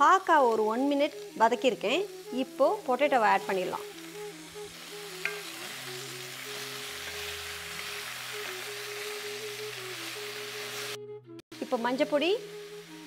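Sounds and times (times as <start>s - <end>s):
oil sizzling in pan: 0.0s - 11.0s, 11.6s - 13.0s
soft background music: 0.0s - 13.0s.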